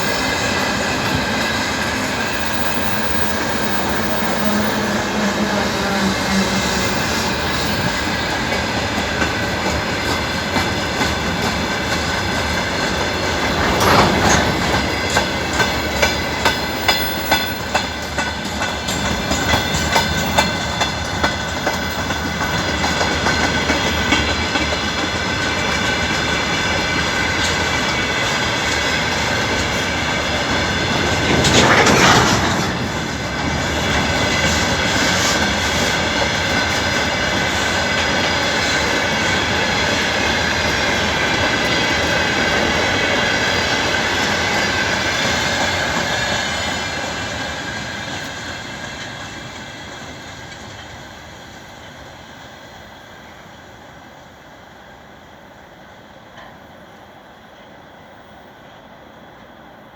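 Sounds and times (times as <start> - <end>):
wheels clacking over rail joints: 0.0 - 51.0
freight train wagons rolling: 0.0 - 51.2.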